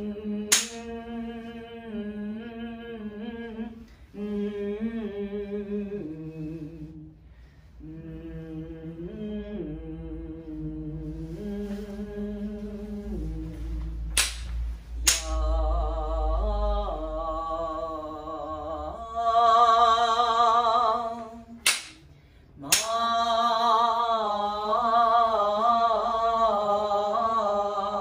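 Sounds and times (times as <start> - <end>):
person singing long held notes: 0.0 - 28.0.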